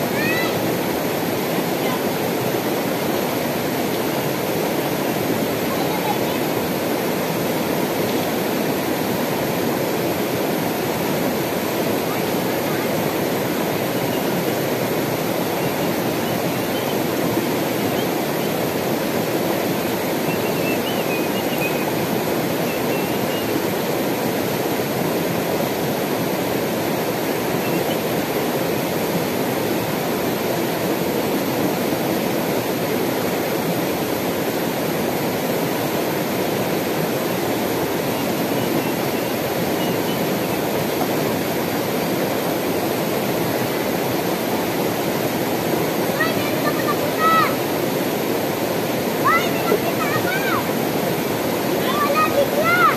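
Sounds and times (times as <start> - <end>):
river rushing over rocks: 0.0 - 52.9.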